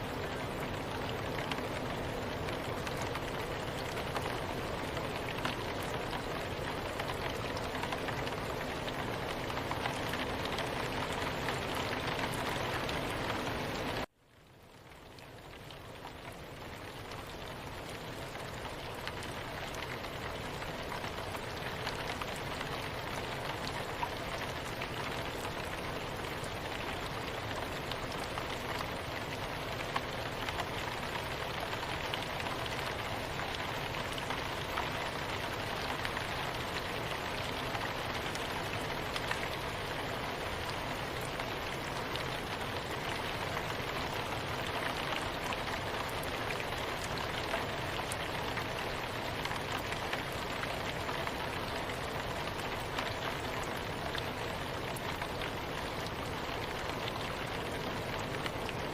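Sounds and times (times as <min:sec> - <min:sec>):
soft rain hiss: 0:00.0 - 0:58.9
raindrop ticks: 0:00.2 - 0:58.9.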